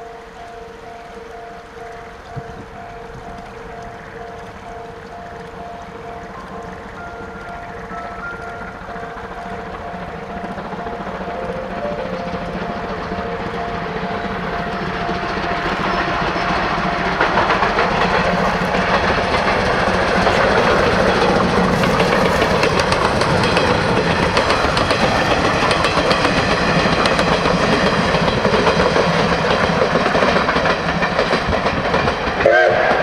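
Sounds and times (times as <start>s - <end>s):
train running noise: 0.0s - 33.0s
train wheels clattering over rail joints: 2.0s - 33.0s.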